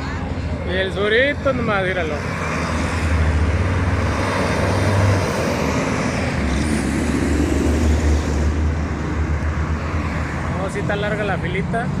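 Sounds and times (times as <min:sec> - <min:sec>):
traffic noise: 0:00.0 - 0:12.0
truck engines rumbling: 0:00.0 - 0:12.0.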